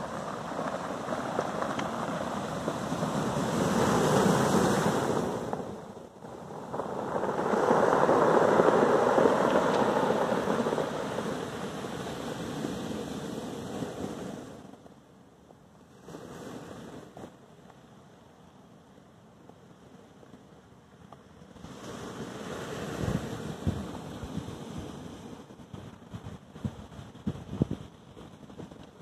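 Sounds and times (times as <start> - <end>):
waves breaking on pebble beach: 0.0 - 14.9, 15.8 - 18.1, 20.9 - 29.0.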